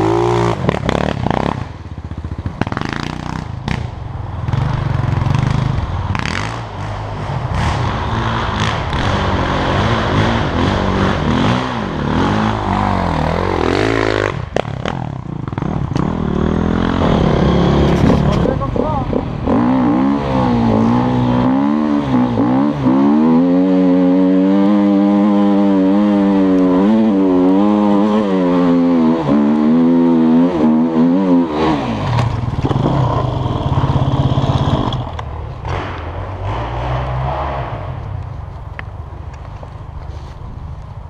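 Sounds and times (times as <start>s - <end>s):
motorcycle engine revving: 0.0s - 38.4s.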